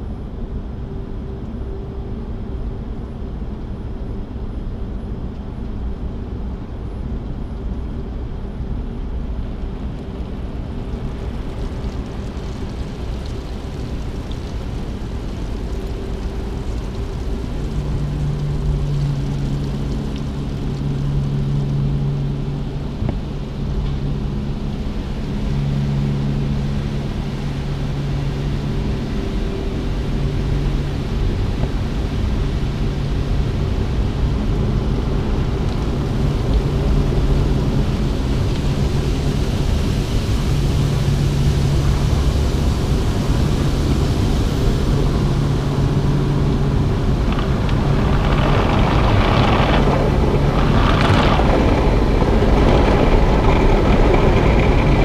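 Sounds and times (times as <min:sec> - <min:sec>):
steady rumble: 0:00.0 - 0:55.0.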